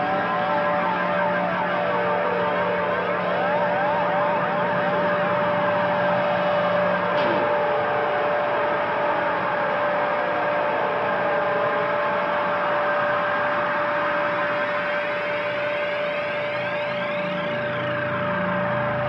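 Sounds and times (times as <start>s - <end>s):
constant high whine: 0.0s - 19.0s
crane machine hum: 0.0s - 19.0s.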